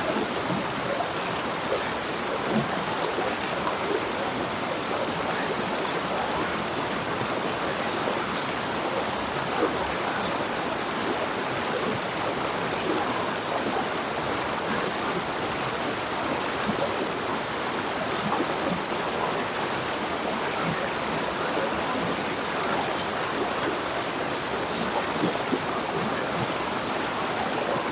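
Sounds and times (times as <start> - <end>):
river water rushing over rocks: 0.0 - 27.9.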